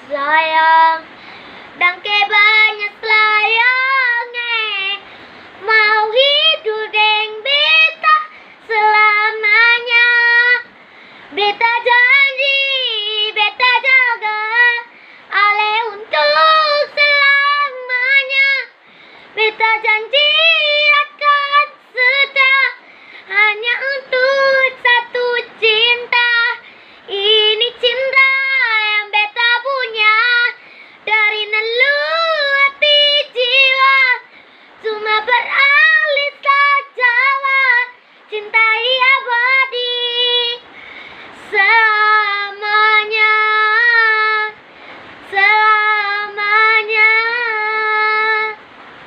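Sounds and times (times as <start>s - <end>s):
boy singing unaccompanied: 0.0s - 48.7s.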